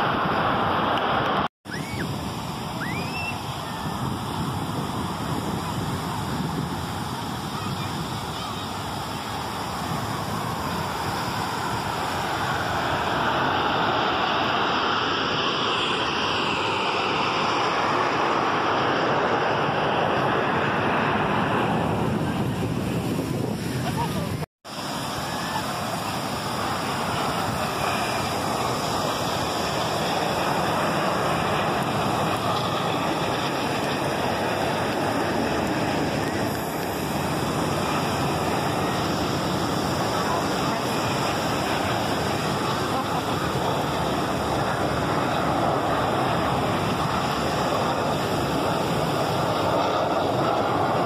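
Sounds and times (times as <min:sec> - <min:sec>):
breaking surf: 0:00.0 - 0:51.0
jet aircraft roar: 0:00.0 - 0:51.0
wind: 0:00.0 - 0:51.0.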